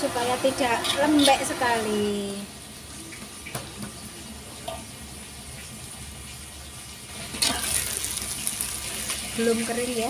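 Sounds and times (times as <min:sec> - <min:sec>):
egg sizzling in oil: 0:00.4 - 0:10.0.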